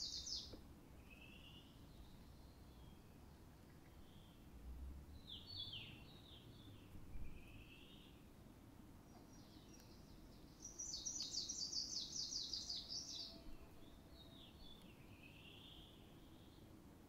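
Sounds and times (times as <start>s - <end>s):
songbirds singing: 0.0s - 8.4s, 9.0s - 17.0s.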